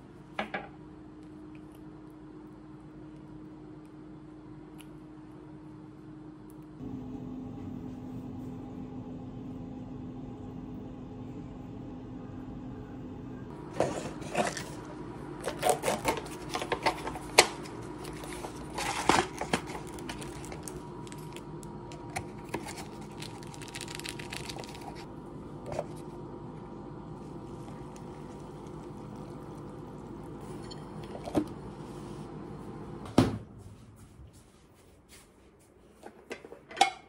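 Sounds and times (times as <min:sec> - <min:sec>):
steady low hum: 0:00.0 - 0:36.2.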